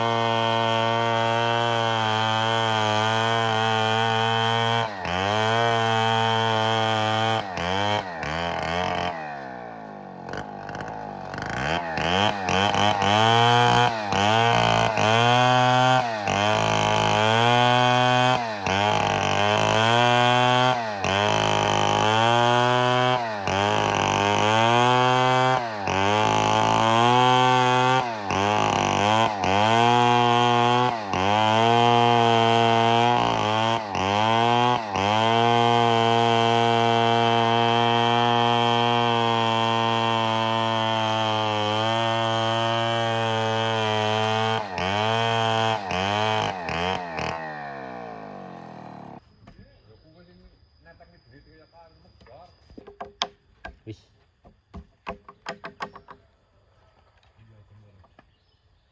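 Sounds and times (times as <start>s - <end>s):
chainsaw engine revving: 0.0s - 49.2s.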